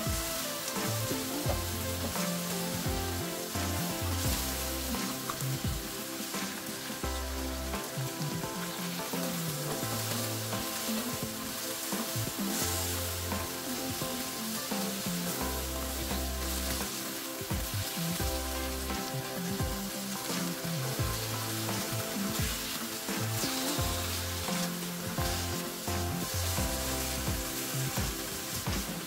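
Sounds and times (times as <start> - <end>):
background music: 0.0 - 29.0
vegetables sizzling in frying pan: 0.0 - 29.0.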